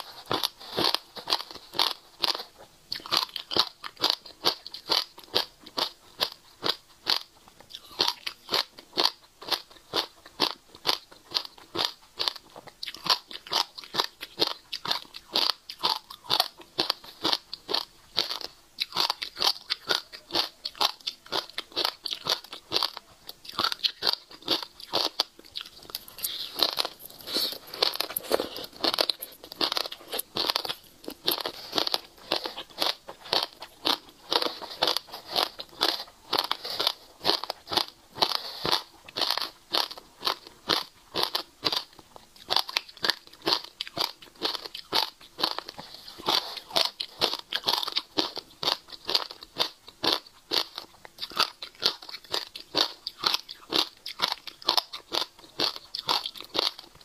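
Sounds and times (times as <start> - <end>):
crunchy chewing of seeds: 0.0 - 57.0.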